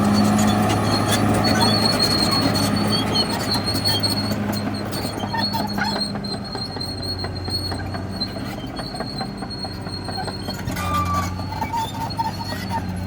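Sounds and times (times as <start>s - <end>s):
bulldozer diesel engine: 0.0s - 13.0s.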